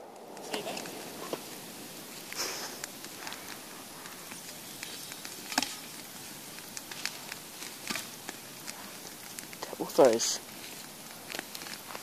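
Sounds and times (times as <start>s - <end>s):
bonfire crackling and popping: 0.0s - 12.0s
loud fire crack: 0.0s - 12.0s.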